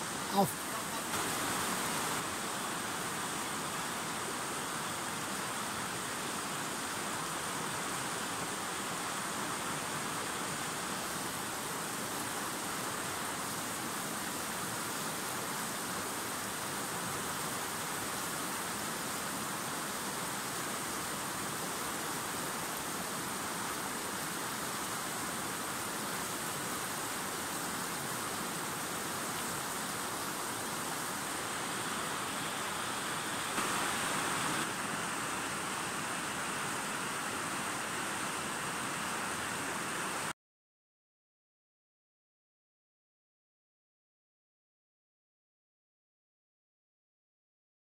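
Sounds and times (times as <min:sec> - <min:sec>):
river rushing over stones: 0:00.0 - 0:40.3.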